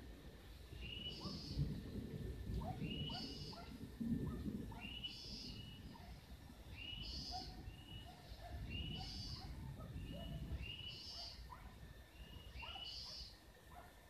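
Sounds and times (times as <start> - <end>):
other birds faint notes: 0.4 - 14.0.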